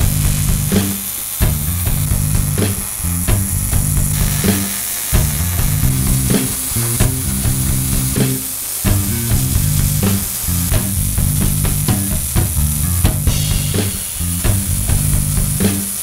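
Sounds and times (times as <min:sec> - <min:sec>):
background music with bass line: 0:00.0 - 0:16.0
welding arc crackling: 0:00.0 - 0:16.0.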